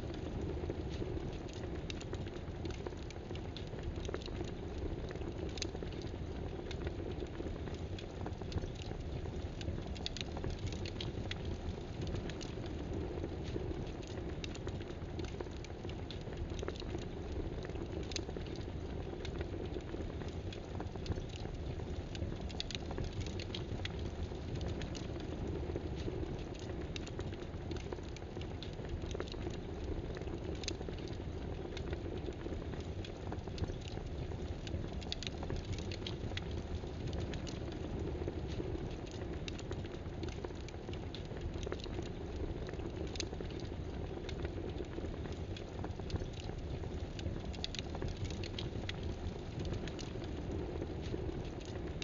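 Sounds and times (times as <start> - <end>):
light ticks and pops: 0.0 - 52.0.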